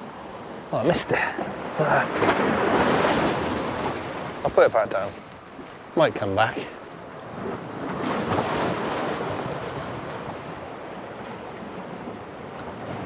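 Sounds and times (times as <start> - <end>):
sea water washing against rocks: 1.1 - 6.6, 7.2 - 13.0.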